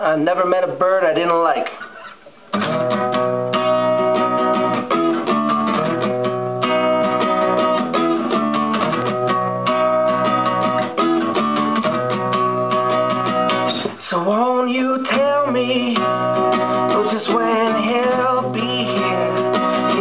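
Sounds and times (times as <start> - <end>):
acoustic guitar strumming: 1.8 - 20.0.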